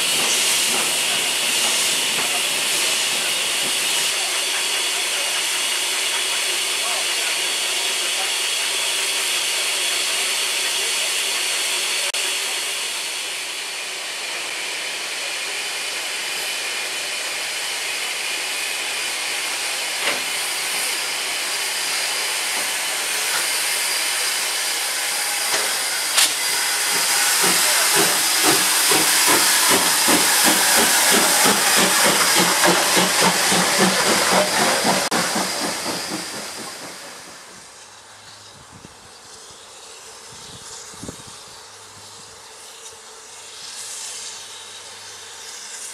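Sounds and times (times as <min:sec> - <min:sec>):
steam hissing: 0:00.0 - 0:45.9
steam locomotive exhaust beats: 0:00.0 - 0:45.9.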